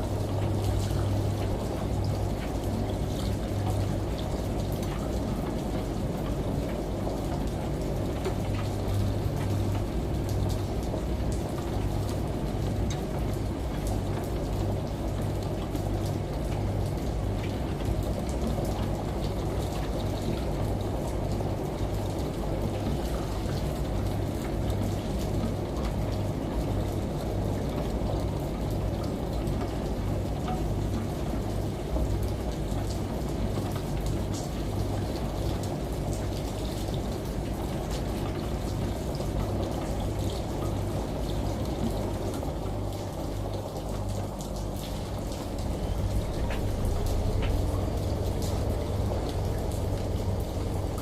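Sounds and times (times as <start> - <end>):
running water like a shower: 0.0 - 51.0
washing machine humming: 0.0 - 51.0.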